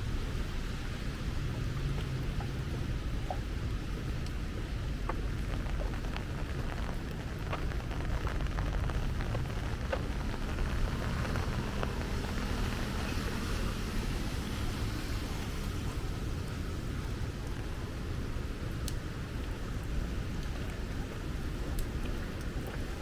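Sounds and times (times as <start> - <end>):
low rumble: 0.0 - 18.7
heavy rain falling: 0.0 - 23.0.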